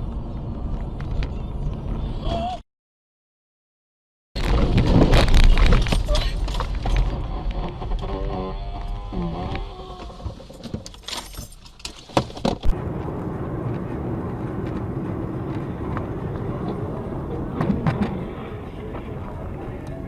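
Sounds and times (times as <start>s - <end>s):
road and engine rumble: 0.0s - 2.6s, 4.4s - 20.0s.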